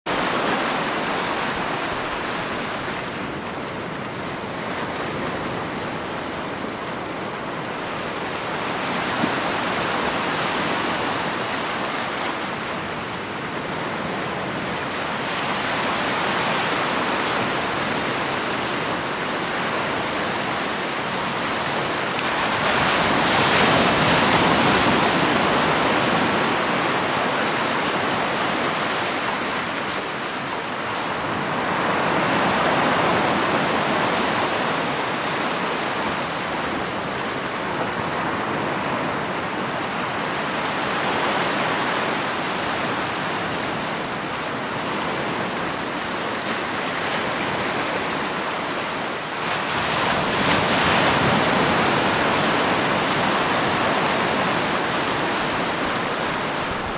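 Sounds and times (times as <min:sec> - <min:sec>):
sea waves breaking: 0:00.1 - 0:56.9.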